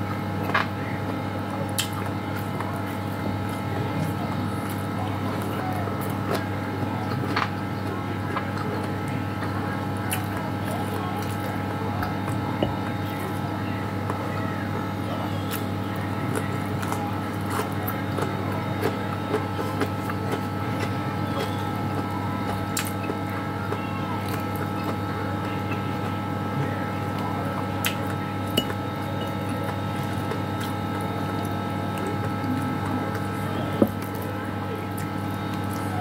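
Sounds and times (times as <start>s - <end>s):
kitchen appliance hum: 0.0s - 36.0s
wet chewing and squishing: 0.2s - 36.0s.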